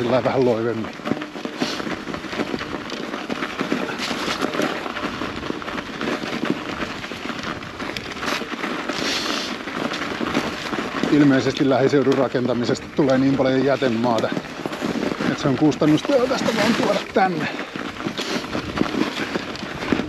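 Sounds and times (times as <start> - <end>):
bike rattling: 0.0 - 20.0
bike tyres crackling on stones: 0.0 - 20.0.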